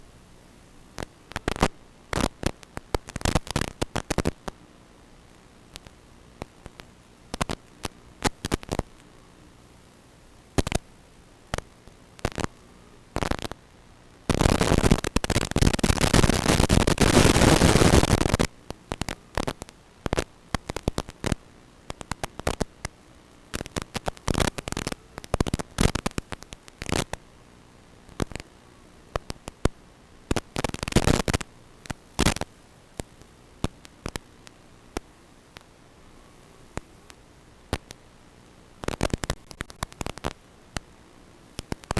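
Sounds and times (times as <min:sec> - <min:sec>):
radio static crackling: 0:00.0 - 0:41.9.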